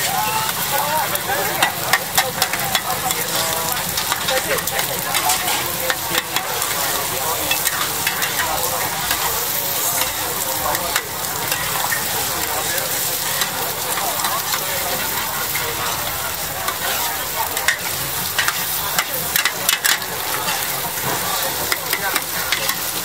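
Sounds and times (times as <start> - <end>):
omelette sizzling in pan: 0.0 - 23.0
metal spatulas scraping pan: 1.5 - 23.0.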